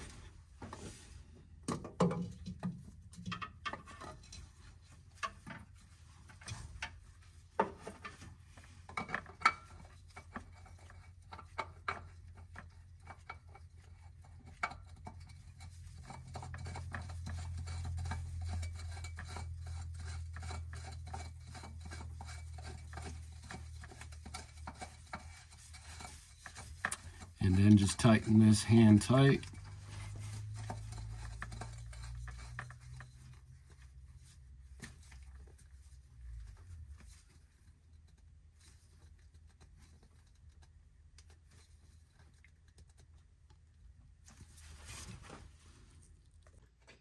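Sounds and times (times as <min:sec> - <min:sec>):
oil filter clicking and scraping: 0:01.6 - 0:45.5
low steady hum: 0:02.3 - 0:47.0.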